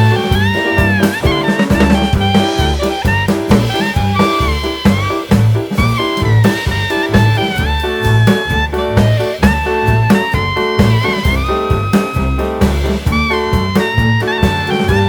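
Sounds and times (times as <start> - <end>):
upbeat jazzy music: 0.0 - 15.0.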